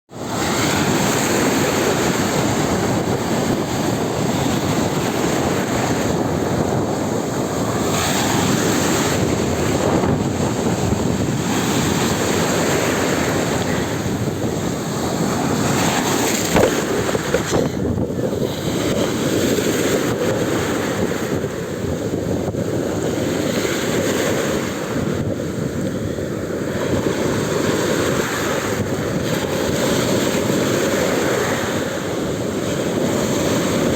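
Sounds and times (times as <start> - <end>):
wind buffeting microphone: 0.1 - 33.9
storm waves breaking: 0.2 - 33.9.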